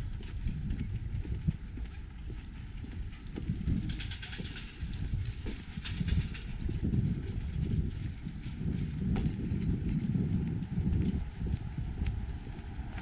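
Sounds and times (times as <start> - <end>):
street noise rumble: 0.0 - 13.0
footsteps walking: 0.1 - 13.0.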